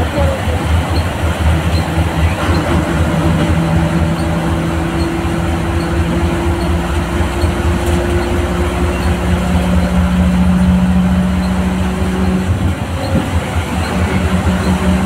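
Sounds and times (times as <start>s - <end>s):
bus engine rumbling: 0.0s - 15.0s
road noise: 0.0s - 15.0s.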